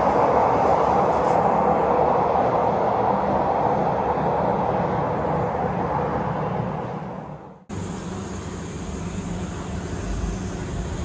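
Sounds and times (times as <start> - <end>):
diesel train passing: 0.0 - 11.0.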